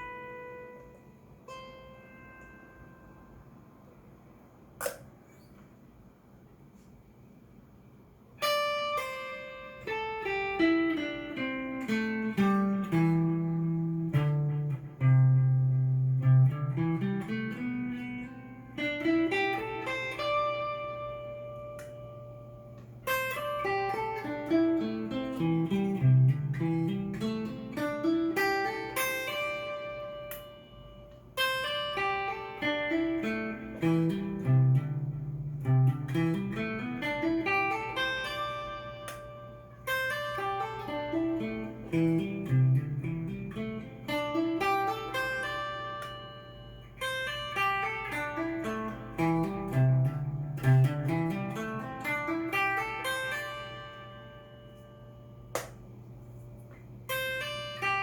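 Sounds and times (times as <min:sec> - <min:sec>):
electric guitar plucked note runs: 0:00.0 - 0:04.0, 0:08.4 - 0:56.2.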